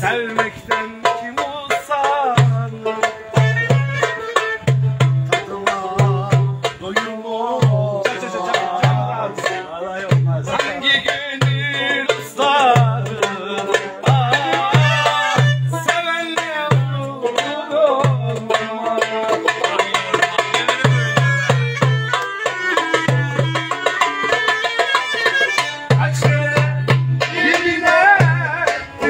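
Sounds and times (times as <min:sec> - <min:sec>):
ornamented melody: 0:00.0 - 0:29.0.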